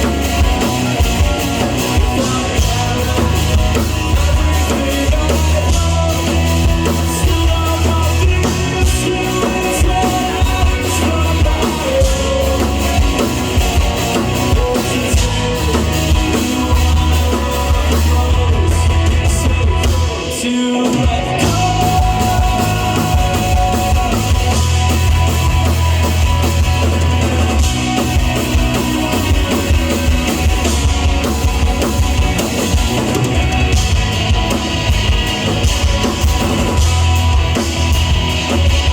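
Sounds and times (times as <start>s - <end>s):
drum kit: 0.0s - 38.9s
heavy bass: 0.0s - 38.9s
live rock band playing: 0.0s - 38.9s.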